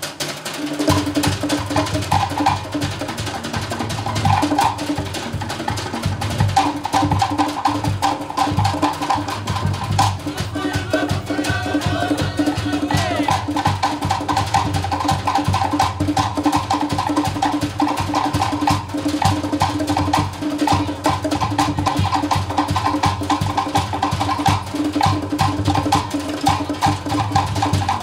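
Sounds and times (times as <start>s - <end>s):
wooden slit drums: 0.0s - 28.0s
bass drum: 0.9s - 28.0s.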